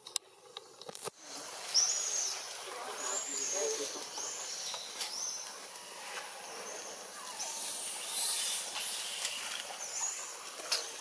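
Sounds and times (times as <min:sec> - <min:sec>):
high-pitched hiss: 0:01.1 - 0:11.0.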